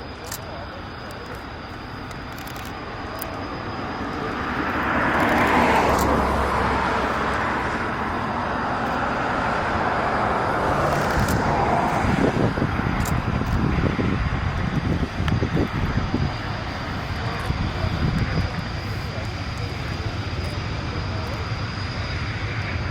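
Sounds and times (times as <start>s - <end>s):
aircraft engine flyover: 0.0s - 22.9s.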